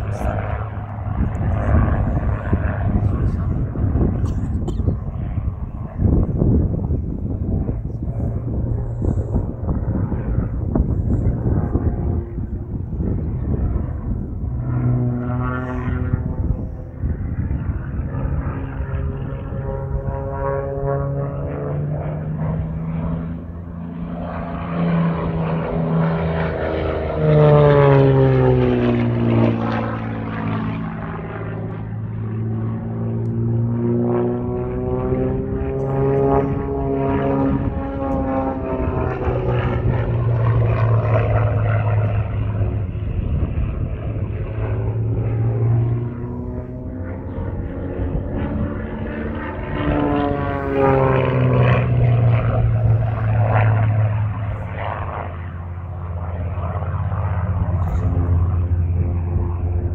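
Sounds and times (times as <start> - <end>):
propeller aircraft passing: 0.0 - 59.9.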